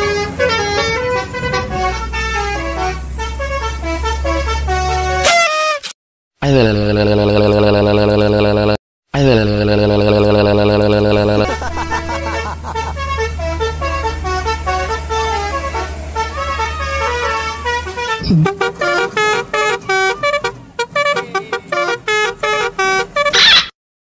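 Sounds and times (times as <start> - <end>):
multi-tone bus horn tune: 0.0 - 5.8, 9.8 - 23.4.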